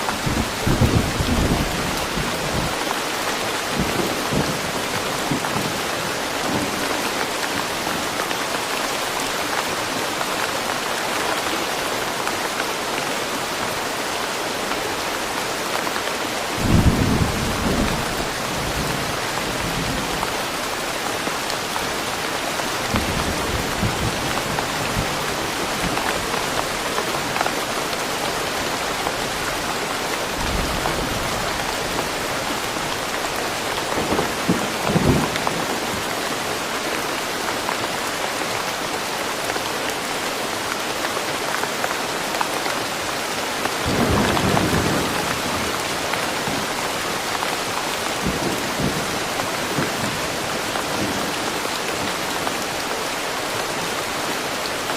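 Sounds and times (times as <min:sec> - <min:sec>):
rain falling in forest: 0:00.0 - 0:54.9.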